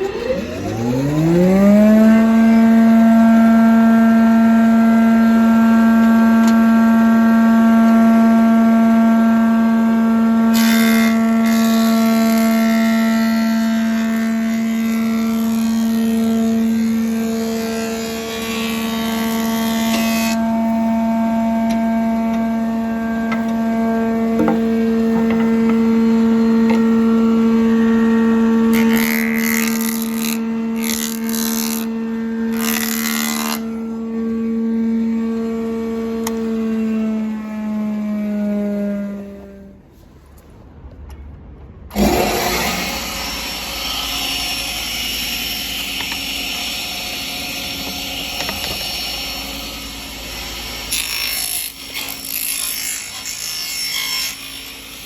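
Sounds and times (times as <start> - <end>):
woodworking machine humming: 0.0 - 39.8, 41.9 - 55.0.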